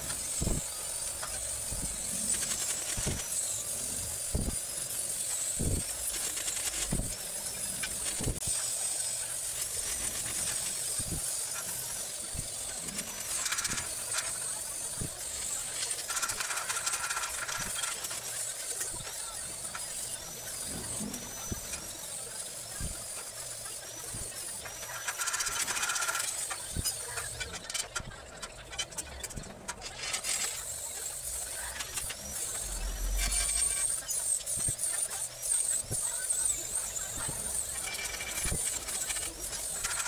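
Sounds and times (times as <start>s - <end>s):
welding arc crackling hiss: 0.0s - 29.2s, 29.8s - 40.0s.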